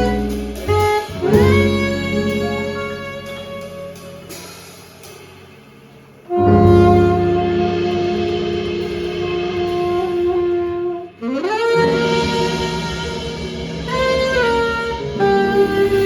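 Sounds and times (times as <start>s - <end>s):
jazz saxophone: 0.0s - 5.2s, 6.2s - 16.0s
piano bass and drums: 0.0s - 16.0s.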